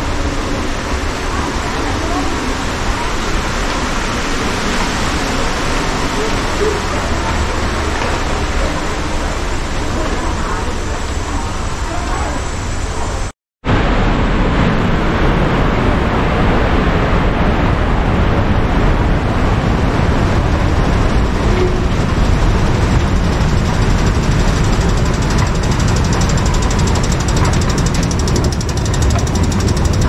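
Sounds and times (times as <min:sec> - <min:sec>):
street traffic: 0:00.0 - 0:13.3, 0:18.4 - 0:30.0.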